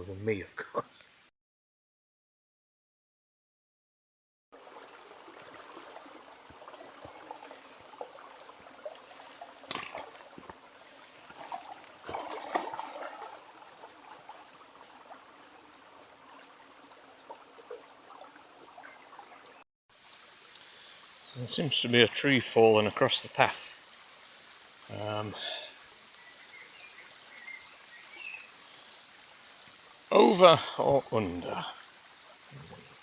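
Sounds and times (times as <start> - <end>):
stream trickling: 4.6 - 33.0.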